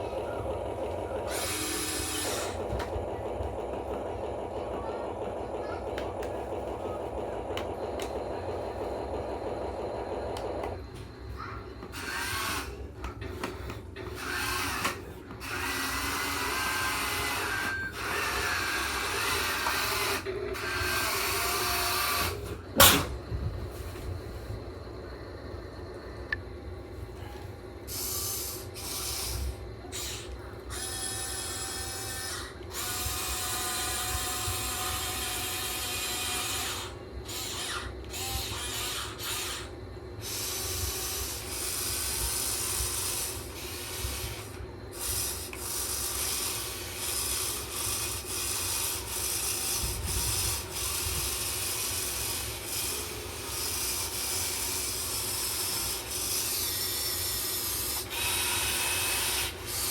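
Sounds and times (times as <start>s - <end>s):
electric motors whining: 0.0s - 26.4s, 27.1s - 59.9s.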